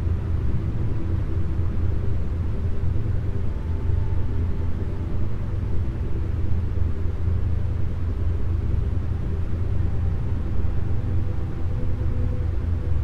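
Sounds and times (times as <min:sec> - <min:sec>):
faint sustained chord tones: 0:00.0 - 0:13.0.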